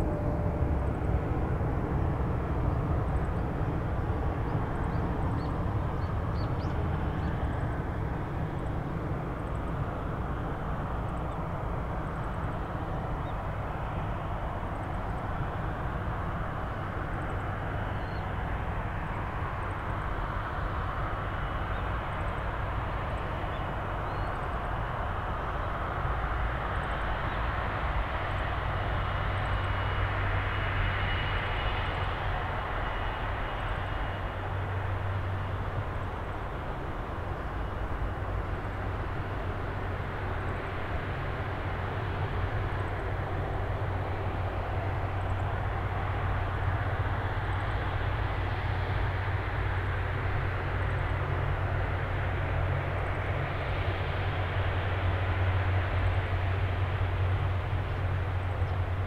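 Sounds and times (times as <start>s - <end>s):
jet engines taxiing: 0.0s - 59.0s
thin engine whine: 0.0s - 59.0s.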